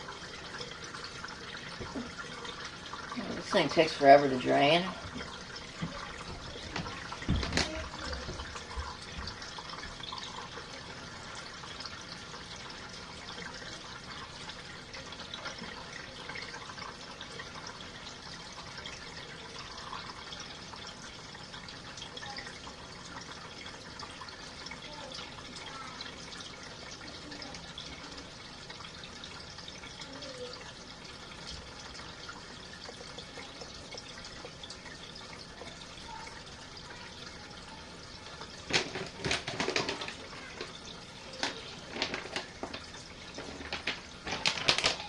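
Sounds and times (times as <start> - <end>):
washing machine water draining: 0.0 - 45.0.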